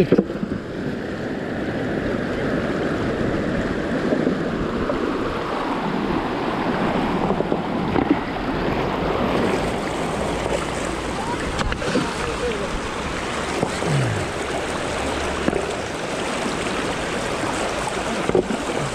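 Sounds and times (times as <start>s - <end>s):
river rushing over rocks: 0.0s - 18.9s.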